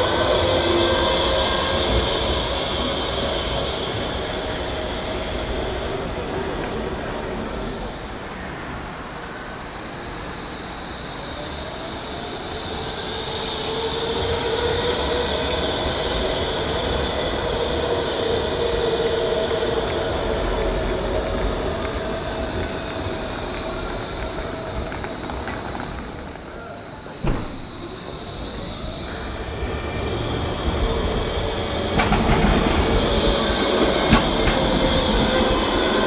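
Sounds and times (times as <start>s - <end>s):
tram motors whining: 0.0s - 36.0s
tram wheels squealing on rails: 0.0s - 36.0s.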